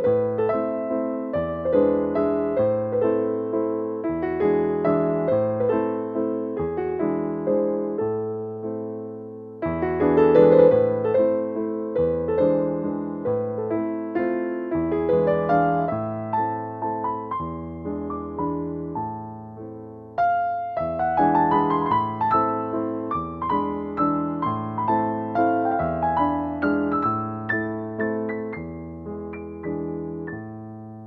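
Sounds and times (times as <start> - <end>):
slow piano melody: 0.0 - 31.0.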